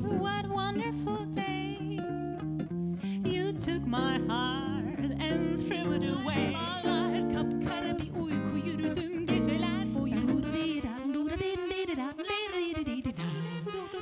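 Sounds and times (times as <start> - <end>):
woman singing: 0.0 - 2.2, 3.0 - 14.0
jazz guitar chords: 0.0 - 11.8.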